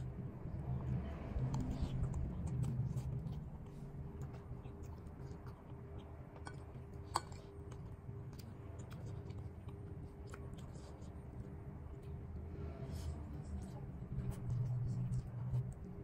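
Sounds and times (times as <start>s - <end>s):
quiet chewing: 0.0s - 16.0s.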